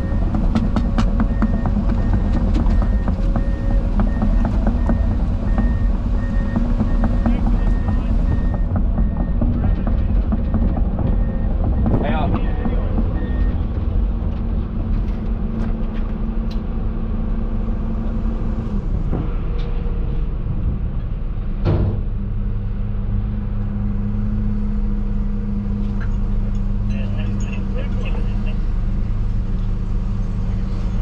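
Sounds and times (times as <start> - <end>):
heavy diesel engines under load: 0.0 - 31.0.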